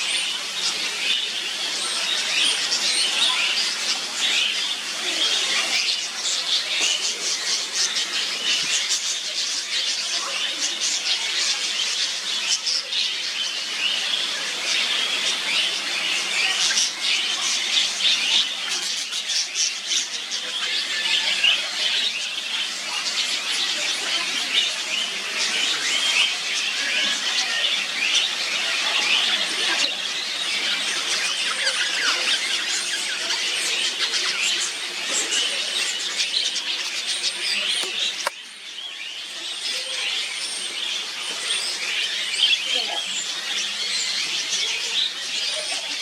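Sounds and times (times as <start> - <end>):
flock of birds chirping: 0.0 - 46.0.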